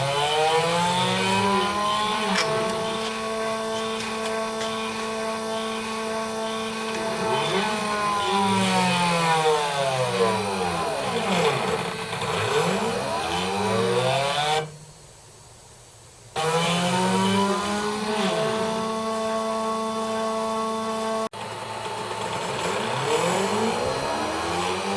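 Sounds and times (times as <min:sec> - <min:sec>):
stepper motors whining: 0:00.0 - 0:14.9, 0:16.4 - 0:24.9.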